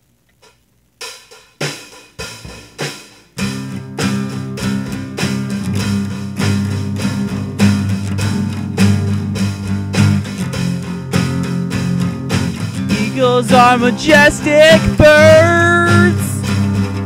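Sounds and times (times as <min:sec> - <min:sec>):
band with guitar and drums: 0:00.3 - 0:17.0
accented band hits: 0:01.0 - 0:17.0.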